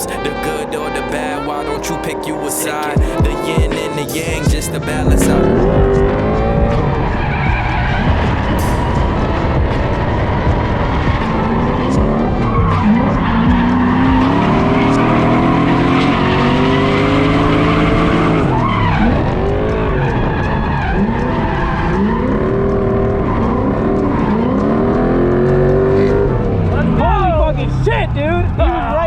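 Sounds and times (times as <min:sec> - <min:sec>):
truck engine revving: 0:00.0 - 0:29.0
tyres skidding and squealing: 0:00.0 - 0:29.0.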